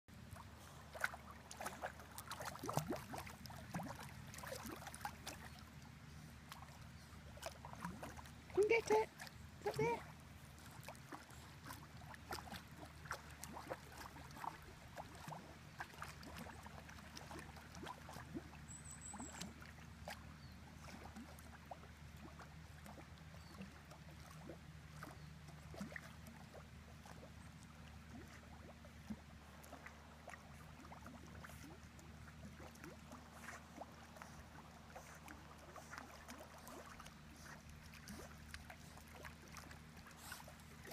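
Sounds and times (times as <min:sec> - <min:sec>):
dog splashing while swimming: 0:00.1 - 0:40.9.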